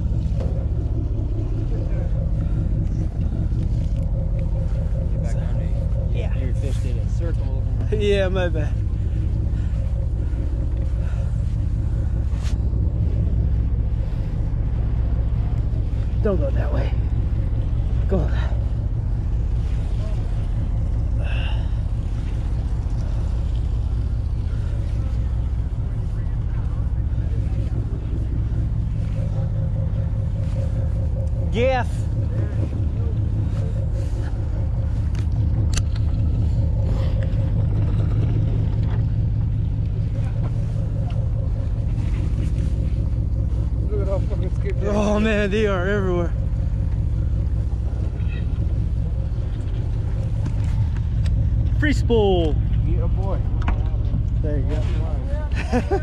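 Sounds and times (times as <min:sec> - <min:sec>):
boat engine rumbling: 0:00.0 - 0:56.0.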